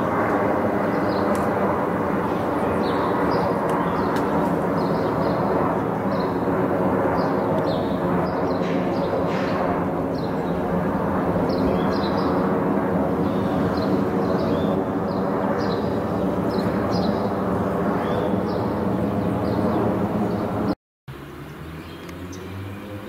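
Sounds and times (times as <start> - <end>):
steady mechanical drone: 0.0 - 23.0.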